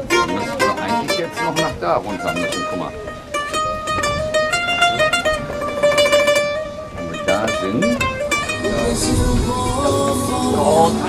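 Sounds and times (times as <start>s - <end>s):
acoustic guitar picked melody: 0.0s - 11.0s
passers-by talking: 0.0s - 11.0s.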